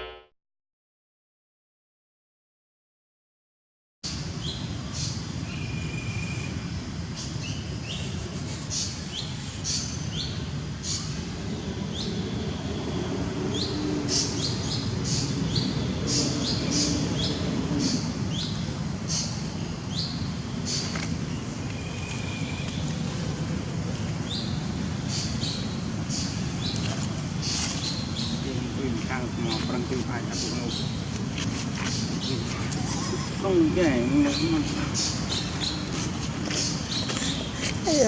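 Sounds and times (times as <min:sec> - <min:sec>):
birds chirping: 0:04.1 - 0:38.0.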